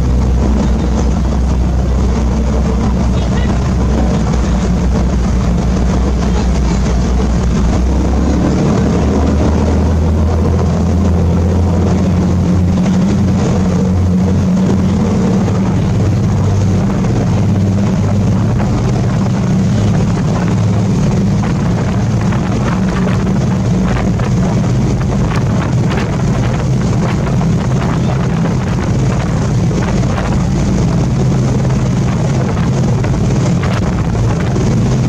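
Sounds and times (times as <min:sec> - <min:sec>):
boat engine drone: 0:00.0 - 0:35.0
rushing water noise: 0:00.0 - 0:35.0.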